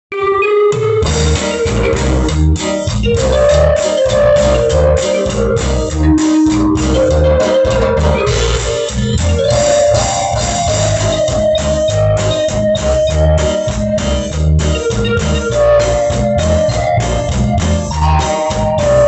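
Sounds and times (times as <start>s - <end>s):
bass guitar: 0.2s - 19.0s
drums: 0.2s - 19.0s
guitar melody: 0.2s - 19.0s.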